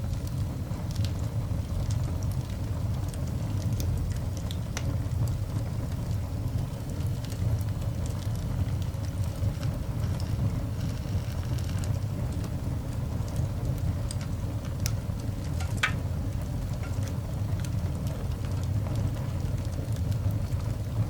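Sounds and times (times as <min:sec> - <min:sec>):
coal fire rumbling and crackling: 0:00.0 - 0:21.0.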